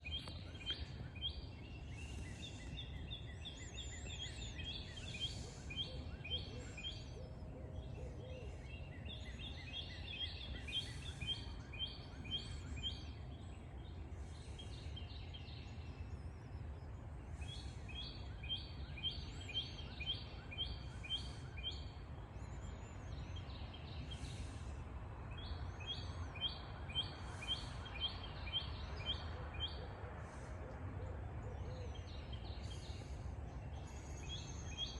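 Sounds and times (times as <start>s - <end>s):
steady low rumble: 0.0s - 27.9s, 30.1s - 34.9s.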